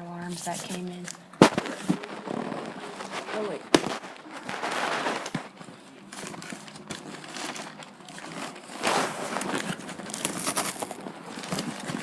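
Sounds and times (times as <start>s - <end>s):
cardboard and paper crinkling: 0.3s - 12.0s.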